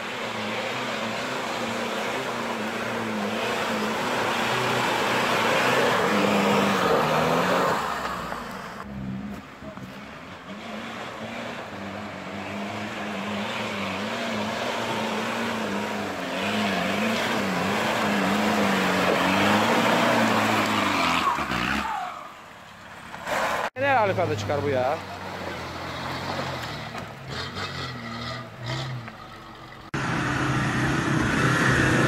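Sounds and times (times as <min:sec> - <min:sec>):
vehicle engine revving: 0:00.0 - 0:22.3, 0:24.4 - 0:32.0.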